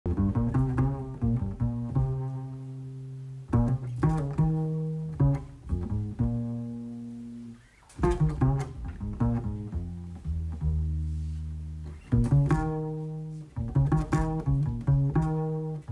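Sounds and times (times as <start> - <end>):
plucked double bass: 0.1 - 15.9.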